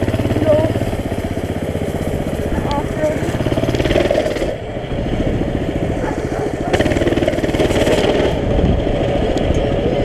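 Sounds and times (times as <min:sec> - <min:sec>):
mini bike engine running: 0:00.0 - 0:10.0.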